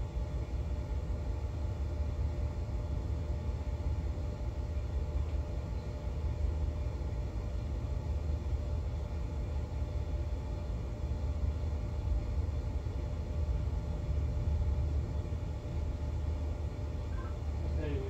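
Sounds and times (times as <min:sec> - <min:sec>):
ship machinery rumble and hum: 0:00.0 - 0:18.0.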